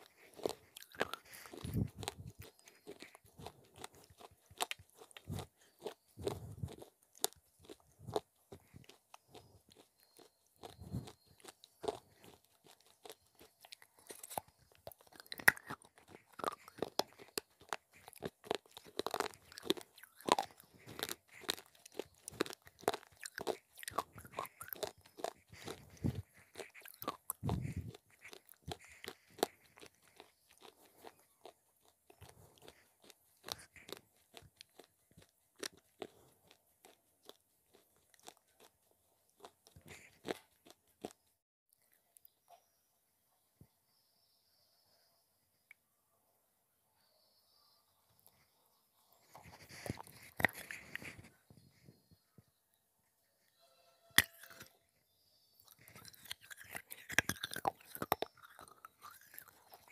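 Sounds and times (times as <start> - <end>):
biting and chewing clay pot pieces: 0.0 - 42.0, 49.2 - 52.2, 54.1 - 54.9, 55.6 - 59.9.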